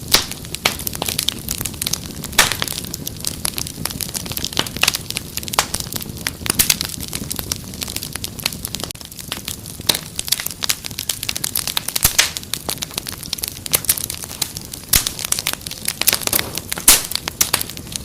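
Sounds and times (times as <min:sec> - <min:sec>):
low rumble of burning: 0:00.0 - 0:18.0
wood fire crackling and popping: 0:00.0 - 0:18.0.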